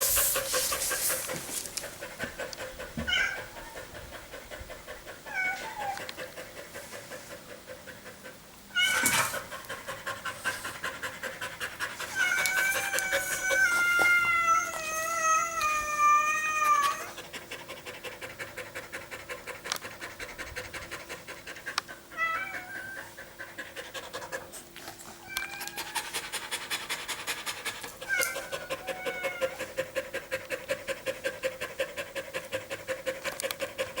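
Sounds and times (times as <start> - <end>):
dog panting: 0.0 - 14.2, 17.0 - 34.0.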